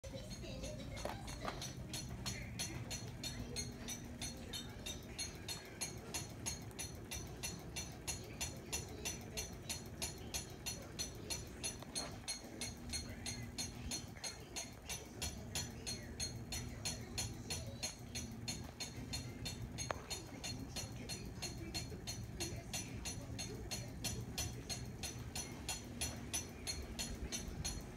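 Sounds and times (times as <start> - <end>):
ceiling fan low hum: 0.0 - 27.9
ceiling fan ticking: 0.0 - 27.9.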